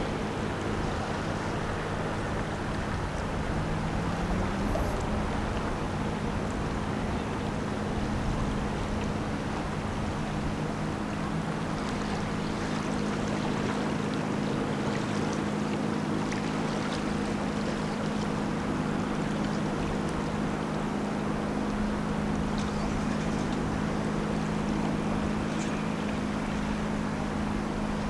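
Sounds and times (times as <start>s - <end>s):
ship engines droning: 0.0s - 28.0s.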